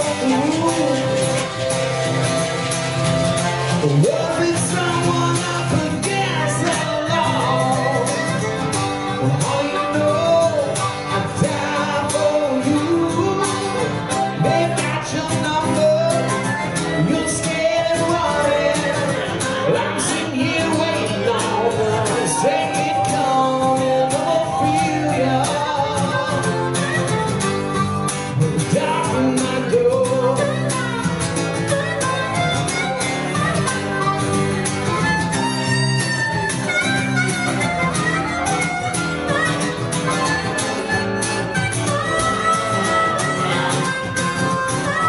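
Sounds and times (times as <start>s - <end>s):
acoustic guitar strumming: 0.0s - 45.0s
harmonica melody: 0.0s - 45.0s.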